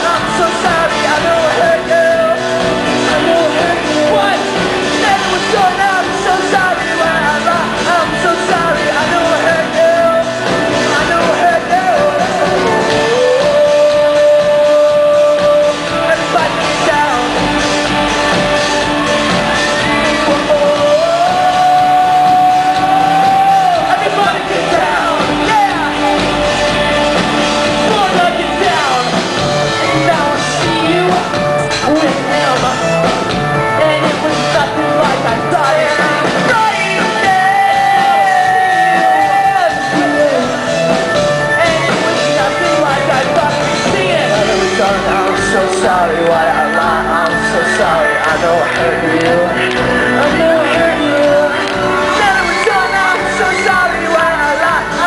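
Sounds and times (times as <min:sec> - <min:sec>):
drums: 0:00.0 - 0:55.0
electric guitars: 0:00.0 - 0:55.0
person singing long notes: 0:00.0 - 0:55.0
rock band playing live: 0:00.0 - 0:55.0.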